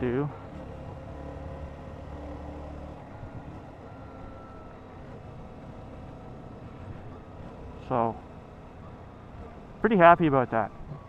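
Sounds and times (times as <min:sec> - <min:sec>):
motorcycle engine running: 0:00.0 - 0:11.0
rushing wind and road noise: 0:00.0 - 0:11.0.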